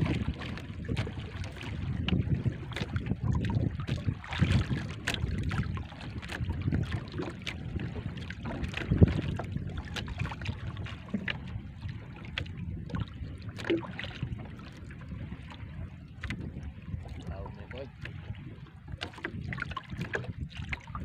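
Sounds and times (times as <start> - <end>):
waves slapping boat hull: 0.0 - 21.0
wind buffeting microphone: 0.0 - 21.0.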